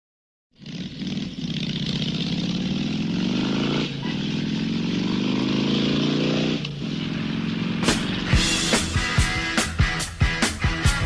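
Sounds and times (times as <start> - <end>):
motorcycle engine accelerating: 0.6 - 11.0.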